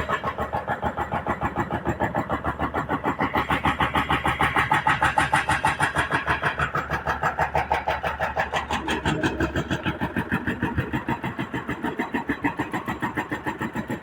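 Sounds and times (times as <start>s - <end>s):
excavator diesel engine pulsing: 0.0s - 14.0s.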